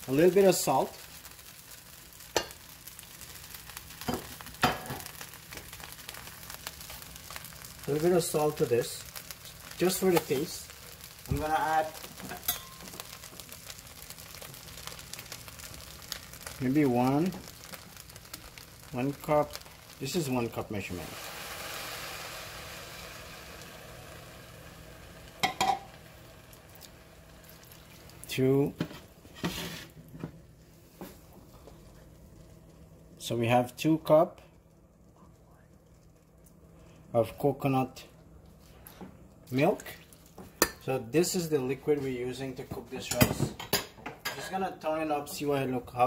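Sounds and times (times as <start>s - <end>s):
rice frying in a pot: 0.0s - 46.0s.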